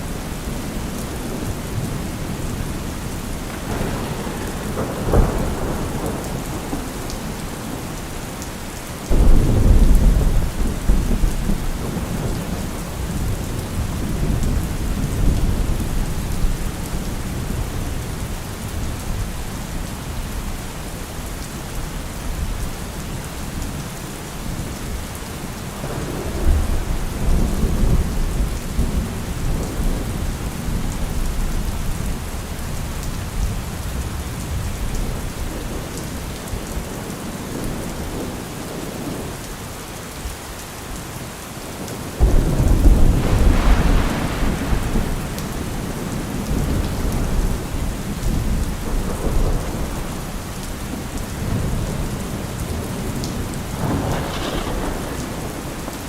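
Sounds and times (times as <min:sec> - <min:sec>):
deep thunder rumbles: 0:00.0 - 0:08.3, 0:09.1 - 0:20.6, 0:25.7 - 0:39.3, 0:42.2 - 0:56.0
heavy rain falling: 0:00.0 - 0:56.0.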